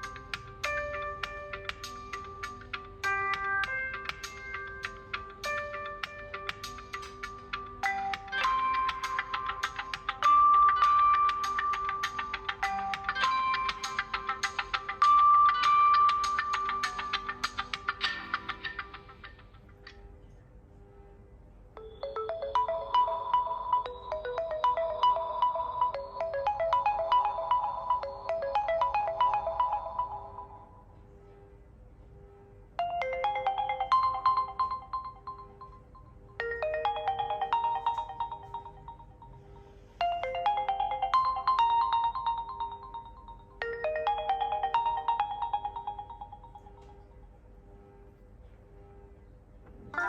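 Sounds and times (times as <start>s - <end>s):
phone ringtone melody: 0.0s - 19.7s, 21.8s - 31.0s, 32.8s - 47.2s.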